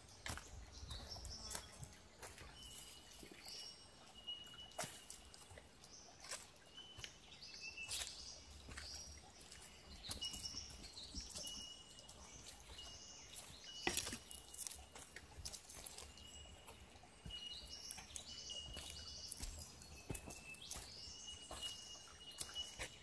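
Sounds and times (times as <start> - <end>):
birds singing: 0.0 - 23.0.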